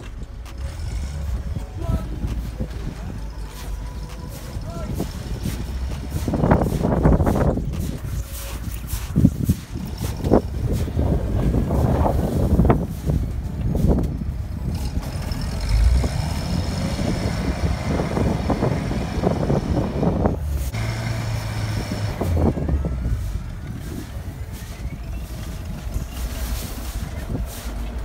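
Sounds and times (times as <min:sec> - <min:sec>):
off-road engine revving under load: 0:00.0 - 0:08.0, 0:09.8 - 0:28.0.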